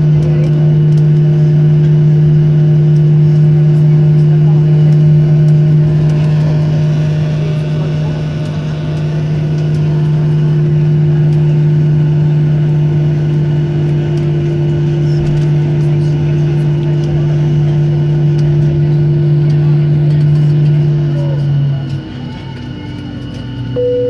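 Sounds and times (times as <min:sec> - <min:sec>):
airplane cabin hum: 0:00.0 - 0:24.0.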